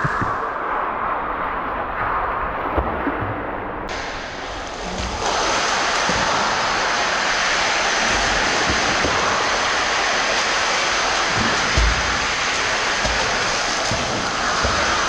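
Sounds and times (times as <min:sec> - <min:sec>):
water splashing in a pool: 0:00.0 - 0:15.0.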